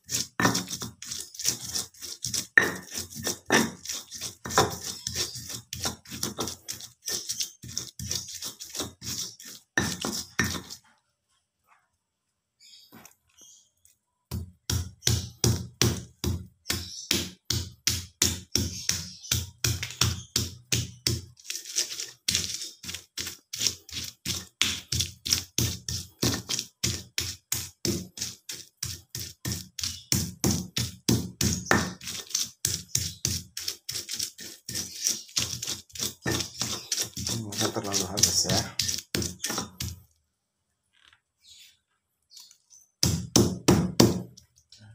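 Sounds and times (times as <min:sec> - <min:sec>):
stone pestle grinding in mortar: 0:00.0 - 0:10.9, 0:14.3 - 0:40.1, 0:43.0 - 0:44.4.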